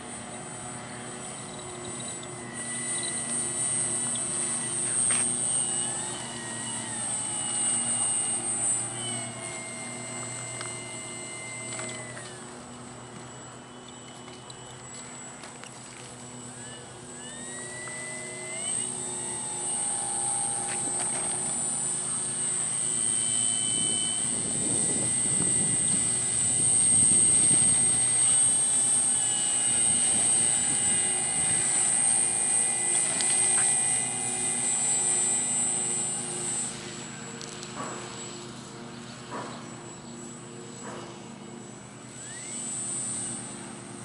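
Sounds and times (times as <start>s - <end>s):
model airplane motor whining: 0.0s - 44.0s.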